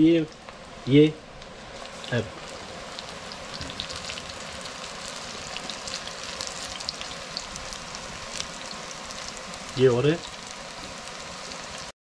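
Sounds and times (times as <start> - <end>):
deep-frying sizzle with pops: 0.0 - 12.0.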